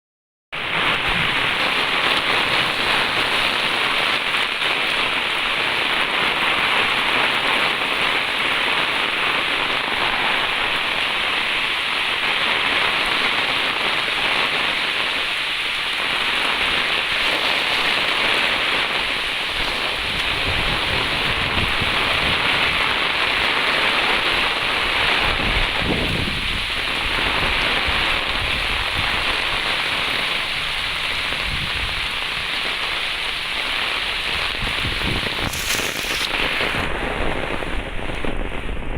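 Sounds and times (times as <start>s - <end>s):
heavy rain falling: 0.6s - 38.9s.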